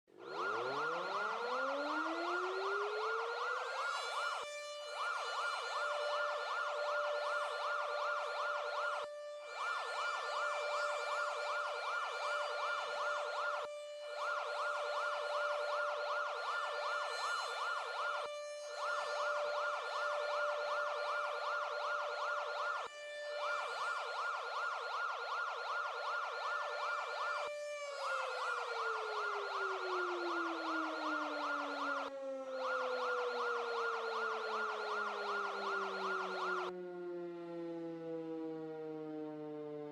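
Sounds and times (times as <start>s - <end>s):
emergency siren winding: 0.1s - 39.9s.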